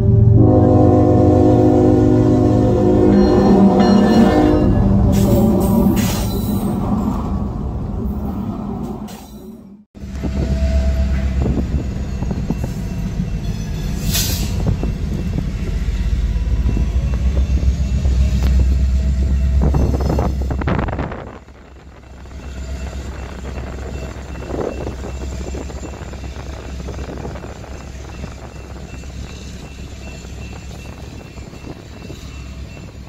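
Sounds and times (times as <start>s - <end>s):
diesel locomotives rumbling: 0.0s - 33.0s.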